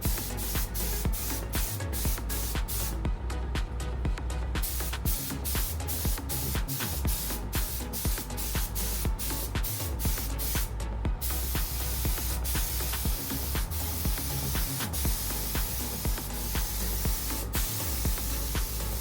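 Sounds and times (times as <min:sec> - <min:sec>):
spray gun hissing: 0:00.0 - 0:03.0, 0:04.6 - 0:19.0
background music with beat: 0:00.0 - 0:19.0.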